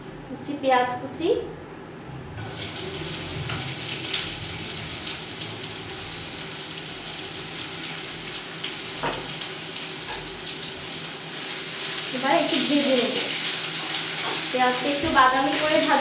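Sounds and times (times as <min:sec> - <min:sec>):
onion sizzling in a frying pan: 0:02.4 - 0:16.0.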